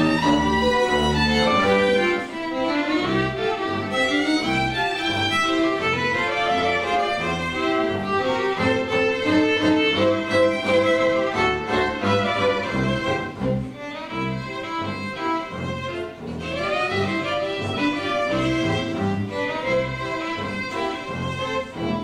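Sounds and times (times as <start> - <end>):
string quartet playing: 0.0 - 22.0.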